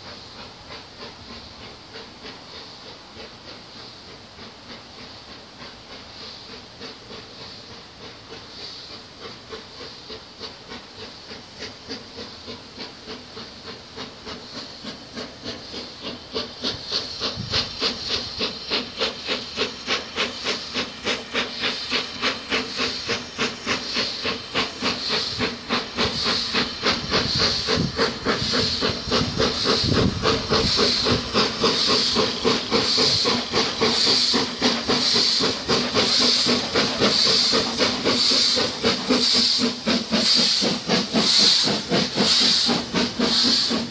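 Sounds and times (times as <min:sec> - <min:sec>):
steam hiss: 0:00.0 - 0:43.9
steam locomotive exhaust chuffs: 0:00.0 - 0:43.9.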